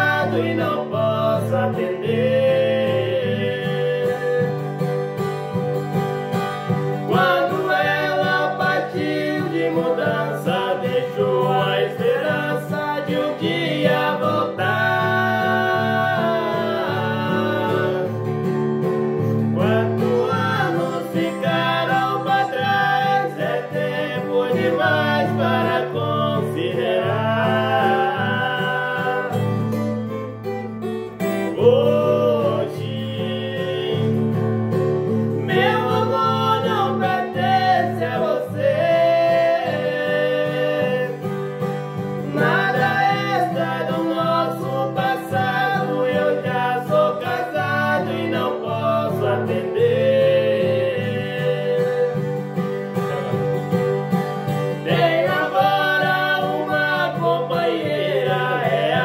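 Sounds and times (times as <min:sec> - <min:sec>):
two men singing: 0:00.0 - 0:05.2, 0:06.8 - 0:30.1, 0:31.2 - 0:53.8, 0:54.4 - 0:59.0
twelve-string acoustic guitar: 0:00.0 - 0:59.0.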